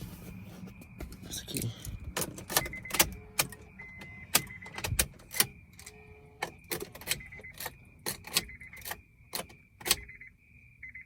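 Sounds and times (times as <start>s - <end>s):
car keys jangling: 1.1s - 10.1s.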